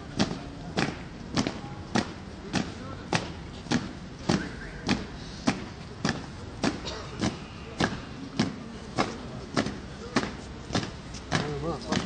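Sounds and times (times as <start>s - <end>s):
boots stamping on stone: 0.1s - 12.0s.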